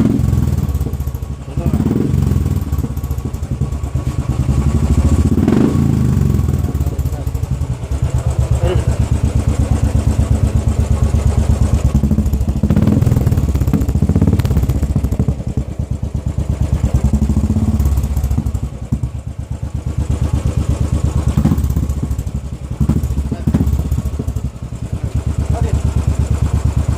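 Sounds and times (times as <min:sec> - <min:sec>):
motorcycle engine exhaust beats: 0:00.0 - 0:26.9.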